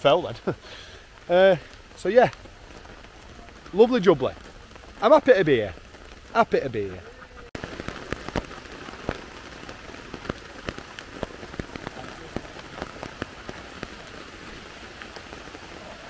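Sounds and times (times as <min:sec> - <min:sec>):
heavy rain on a tarp: 0:00.0 - 0:16.0.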